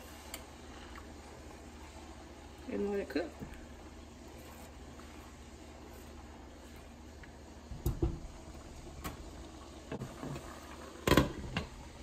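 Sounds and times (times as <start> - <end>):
pot boiling and bubbling: 0.0 - 12.0.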